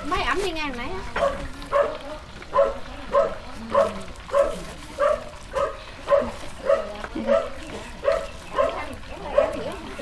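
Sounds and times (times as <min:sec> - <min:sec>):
dog barking: 0:01.1 - 0:09.9.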